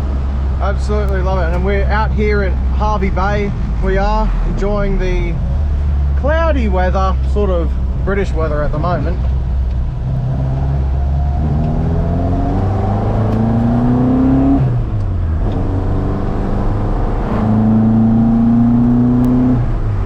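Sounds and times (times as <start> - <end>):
car engine accelerating hard: 3.7 - 20.0.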